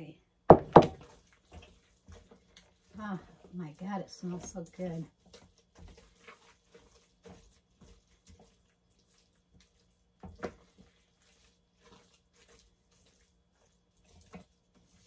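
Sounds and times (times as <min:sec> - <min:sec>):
wooden spoon stirring in pot: 0:00.0 - 0:15.0.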